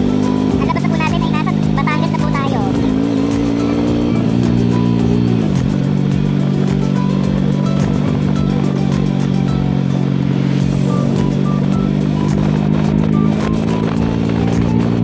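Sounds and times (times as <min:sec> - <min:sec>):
background music: 0:00.0 - 0:15.0
motorcycle engine running: 0:00.0 - 0:15.0.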